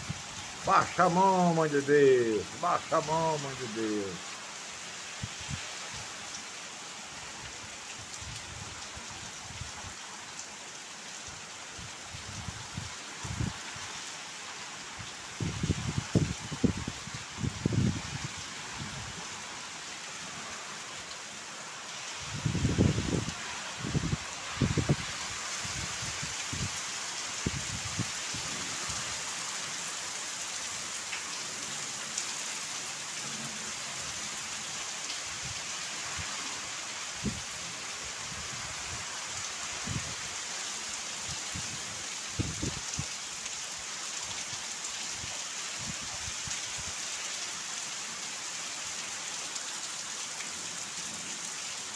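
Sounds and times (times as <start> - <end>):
wind-driven rain falling: 0.0 - 51.9.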